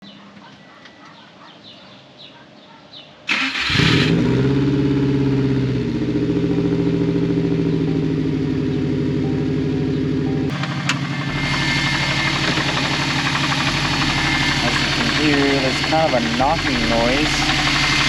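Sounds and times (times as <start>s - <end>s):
car engine cranking and idling: 3.3s - 18.0s.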